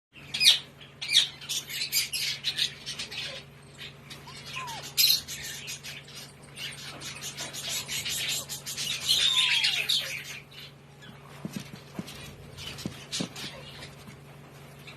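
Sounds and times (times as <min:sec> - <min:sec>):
parakeet chicks squawking: 0:00.2 - 0:14.9.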